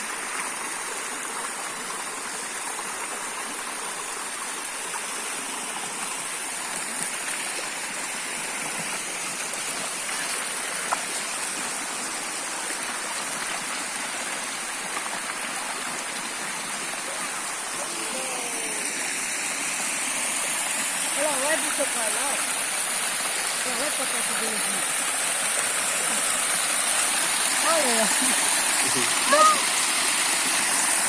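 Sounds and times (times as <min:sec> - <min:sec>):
small waterfall splashing: 0:00.0 - 0:31.0.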